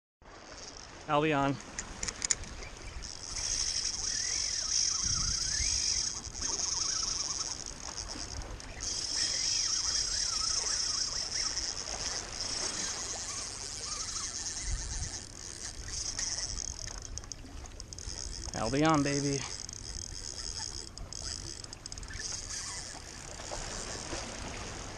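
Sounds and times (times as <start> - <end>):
fishing reel drag buzzing: 0.3 - 24.9.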